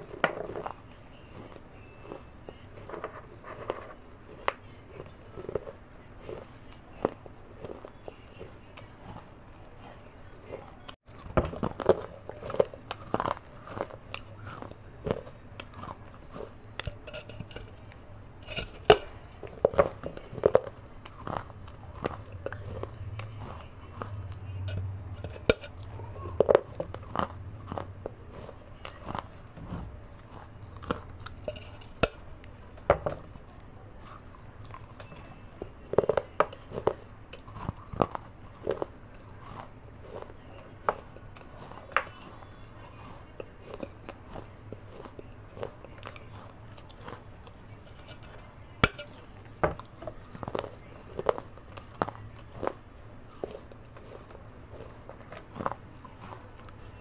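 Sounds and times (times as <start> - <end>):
chewing clay pieces: 0.0 - 57.0.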